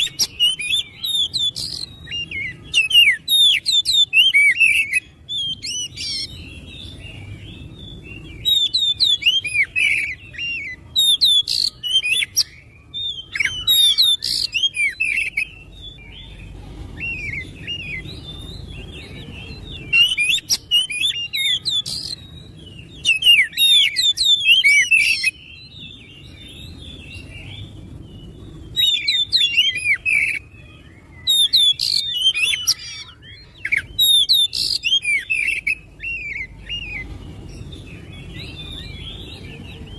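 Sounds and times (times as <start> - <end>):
bird singing chirps and whistles: 0.0 - 39.9
soft bird twittering: 0.0 - 39.9.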